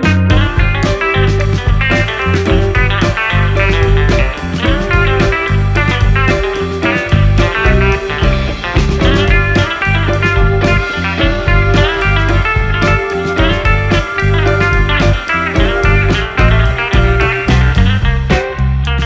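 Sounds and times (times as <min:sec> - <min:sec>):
blues-rock guitar music: 0:00.0 - 0:19.0.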